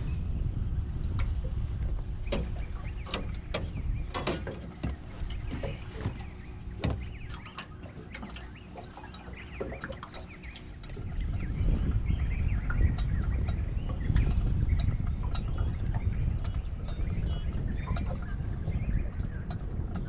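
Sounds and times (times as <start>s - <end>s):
birds chirping: 0.0s - 20.0s
wind buffeting microphone: 0.0s - 20.0s
clicks and knocks on metal boat: 1.0s - 11.5s, 12.6s - 20.0s.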